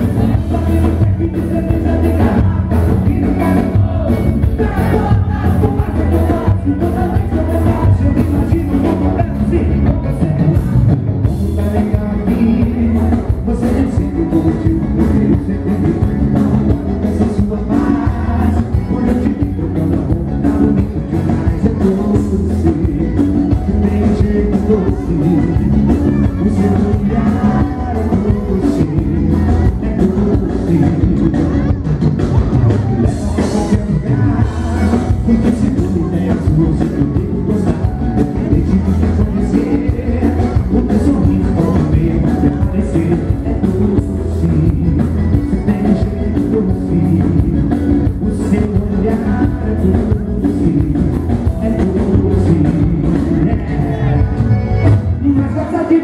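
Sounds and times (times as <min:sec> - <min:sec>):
steady drum beat: 0:00.0 - 0:55.5
accordion: 0:00.0 - 0:56.0
keyboard: 0:00.0 - 0:56.0
man singing: 0:00.0 - 0:56.0.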